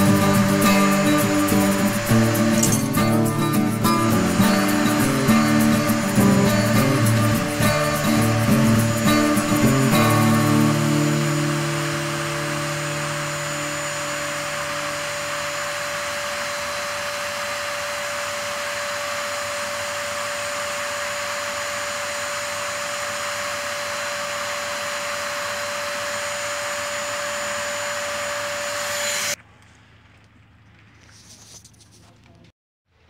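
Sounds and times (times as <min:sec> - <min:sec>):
air blower whooshing and whining: 0:00.0 - 0:29.4.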